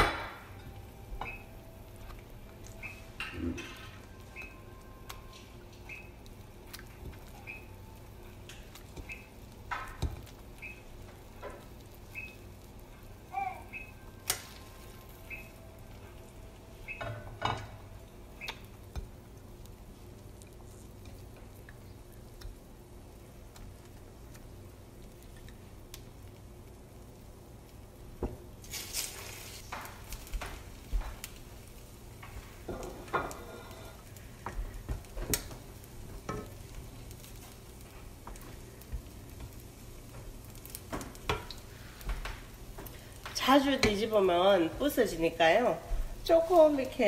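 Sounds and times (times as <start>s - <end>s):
bread sizzling in oil: 0.0s - 47.0s.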